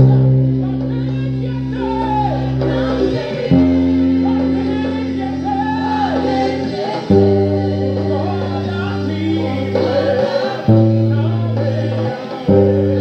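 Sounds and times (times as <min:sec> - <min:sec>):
electric bass held notes: 0:00.0 - 0:13.0
gospel song with singing: 0:00.0 - 0:13.0.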